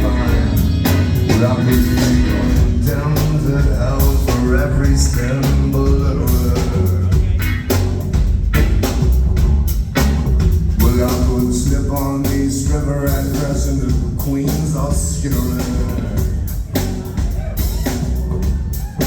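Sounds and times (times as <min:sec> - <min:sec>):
drums keeping a steady beat: 0:00.0 - 0:19.0
heavy bass line: 0:00.0 - 0:19.0
live rock band playing: 0:00.0 - 0:19.0.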